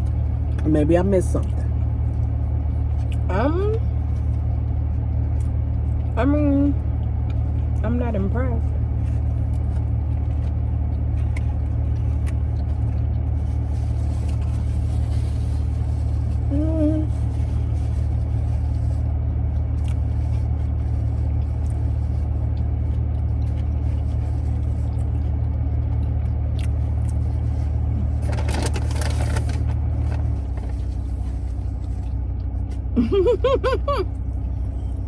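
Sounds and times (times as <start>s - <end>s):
car idling heard from inside: 5.4s - 35.0s.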